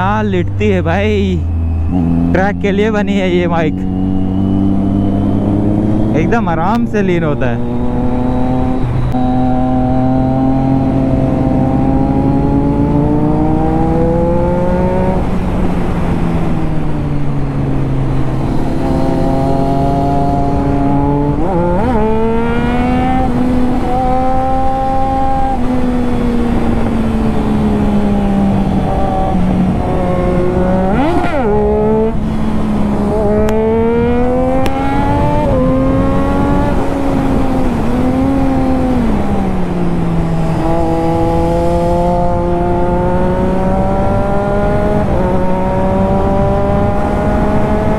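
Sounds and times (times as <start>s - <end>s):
motorcycle engine revving: 1.2s - 47.9s
wind rush: 3.0s - 47.9s.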